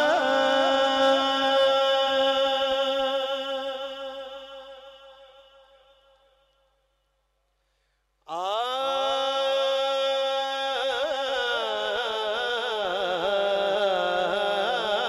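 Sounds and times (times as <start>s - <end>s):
man singing a long held note: 0.0s - 6.0s, 8.3s - 15.0s.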